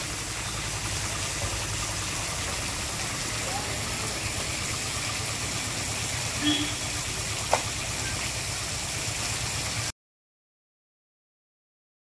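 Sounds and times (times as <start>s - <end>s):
water spray hissing: 0.0s - 9.9s.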